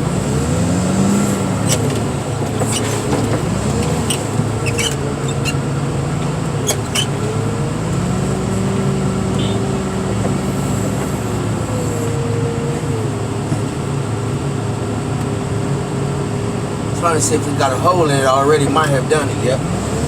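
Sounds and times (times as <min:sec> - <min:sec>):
diesel machine hydraulic whine: 0:00.0 - 0:19.5.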